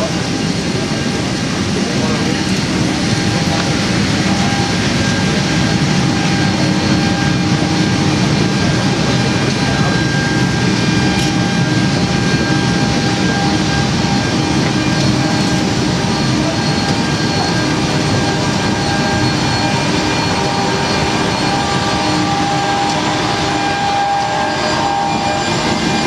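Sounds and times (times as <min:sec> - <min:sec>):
airplane cabin rush: 0:00.0 - 0:26.0
constant whining tones: 0:00.0 - 0:26.0.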